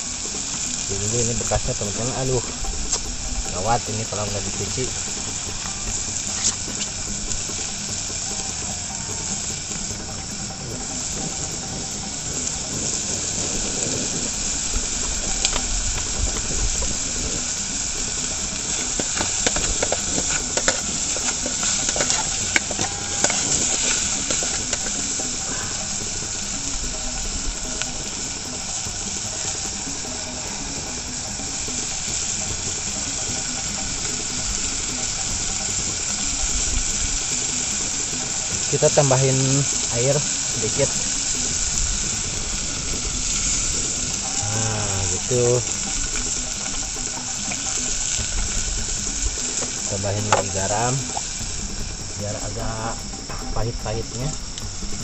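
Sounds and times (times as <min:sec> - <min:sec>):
pot hissing over fire: 0:00.0 - 0:55.0.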